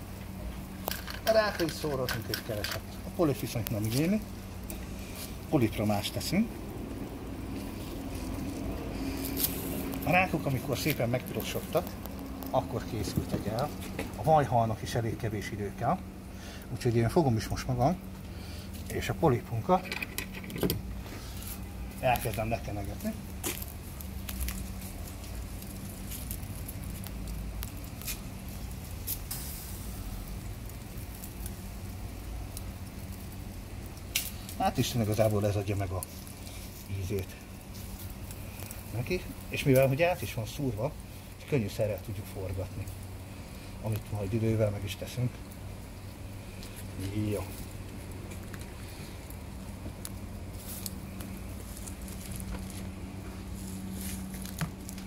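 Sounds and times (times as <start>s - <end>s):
seafood sizzling on a grill: 0.0s - 55.0s
small crackles and pops: 0.0s - 55.0s
steady low hum: 0.0s - 55.0s.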